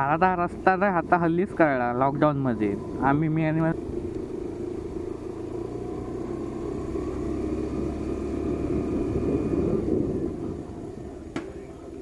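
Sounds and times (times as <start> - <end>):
wind rumble on microphone: 0.0 - 6.1, 7.8 - 12.0
scooter engine running: 0.0 - 12.0.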